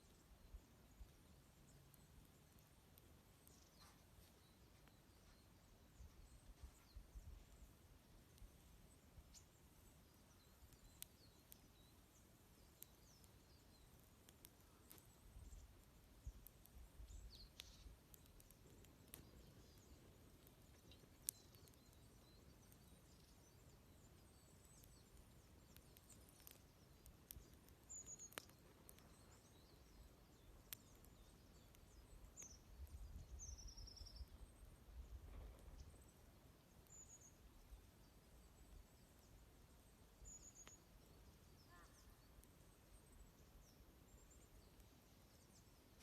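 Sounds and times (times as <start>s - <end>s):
small birds chirping and trilling: 0.0s - 46.0s
wood fire crackling: 0.0s - 46.0s.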